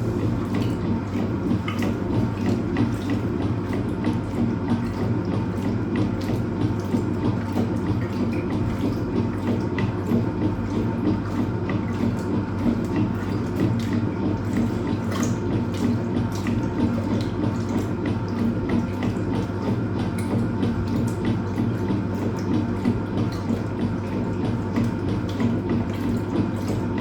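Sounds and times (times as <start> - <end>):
low machine hum: 0.0 - 27.0
water rushing into tub: 0.0 - 27.0.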